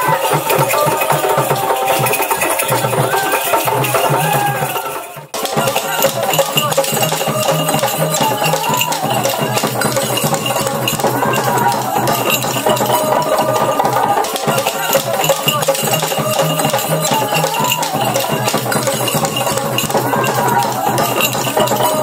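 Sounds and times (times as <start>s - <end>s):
rattles shaken: 0.0s - 22.0s.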